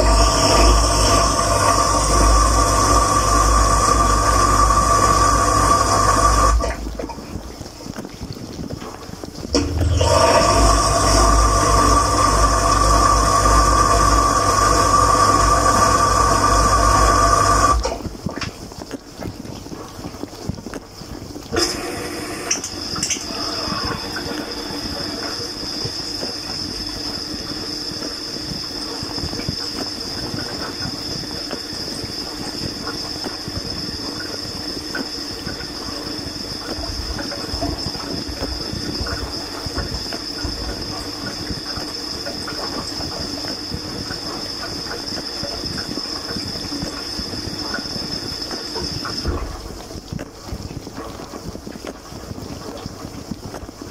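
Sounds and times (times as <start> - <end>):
thin high whine: 0.0 - 7.6, 9.4 - 18.1, 21.5 - 52.4
dishwasher water spatter: 0.0 - 53.9.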